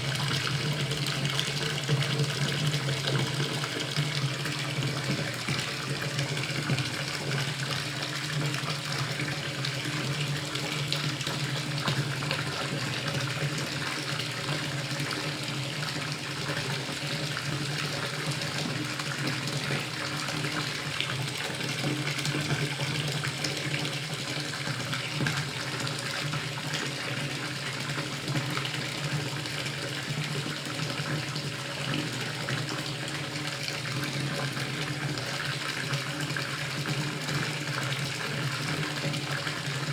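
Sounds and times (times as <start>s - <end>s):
tap water filling a bathtub: 0.0s - 39.9s.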